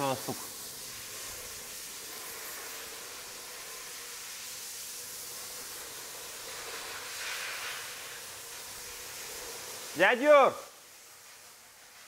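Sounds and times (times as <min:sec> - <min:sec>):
workshop background hiss: 0:00.0 - 0:12.0.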